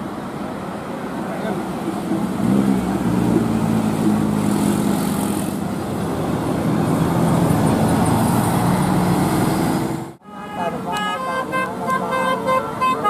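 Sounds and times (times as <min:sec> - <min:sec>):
bus diesel engine: 0:00.0 - 0:13.0
car passing: 0:00.0 - 0:13.0.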